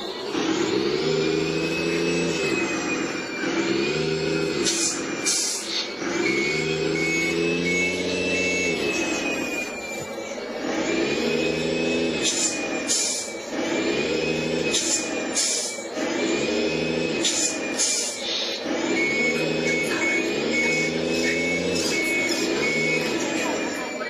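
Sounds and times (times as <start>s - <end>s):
toy truck simulated diesel engine: 0.0s - 24.0s.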